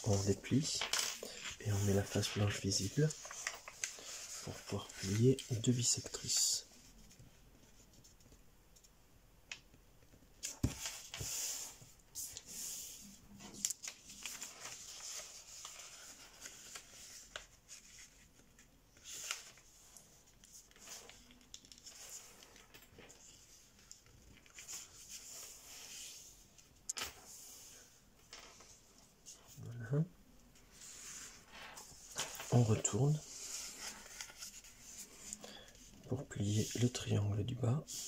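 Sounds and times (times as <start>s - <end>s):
paper rustling while folded: 0.0s - 7.1s, 10.4s - 29.6s, 30.6s - 37.2s.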